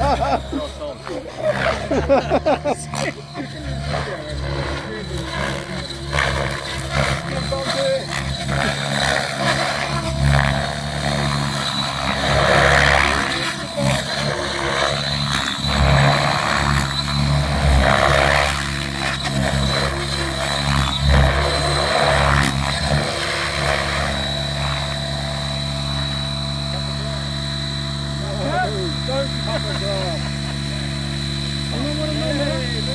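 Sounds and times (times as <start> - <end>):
helicopter rotor blades beating: 0.0 - 32.9
high electric whine: 0.0 - 32.9.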